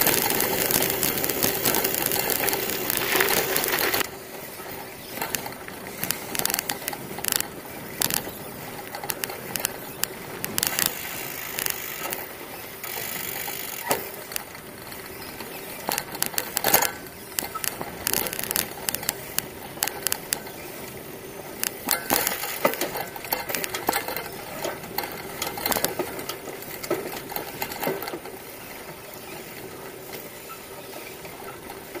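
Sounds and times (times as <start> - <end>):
bicycle tyre noise on dirt: 0.0 - 32.0
bike rattling and knocking: 0.0 - 32.0.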